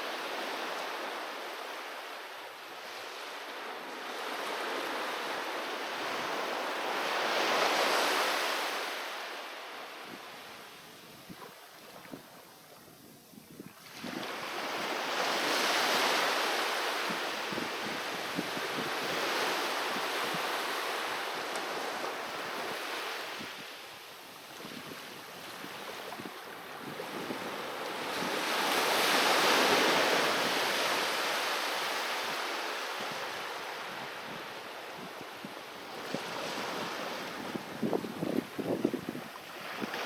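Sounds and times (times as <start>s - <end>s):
sea waves breaking on a beach: 0.0s - 40.0s.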